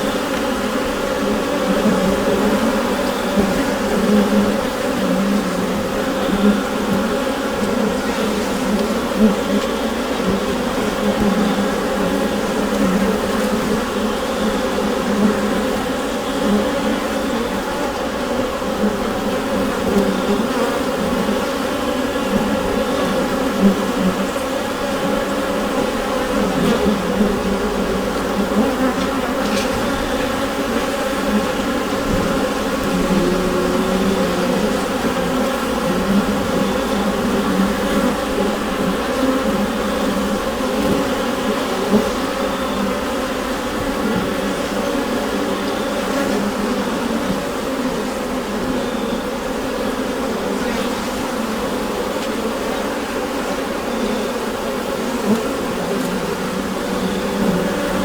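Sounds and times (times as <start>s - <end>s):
honeybees humming in hive: 0.0s - 58.0s.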